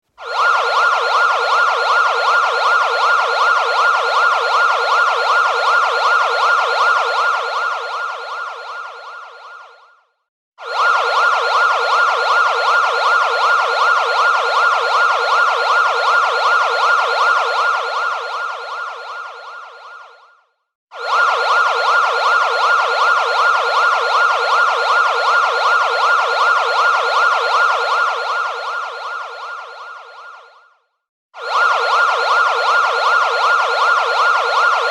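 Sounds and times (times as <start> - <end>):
fast-warbling alarm siren: 0.2 - 34.9.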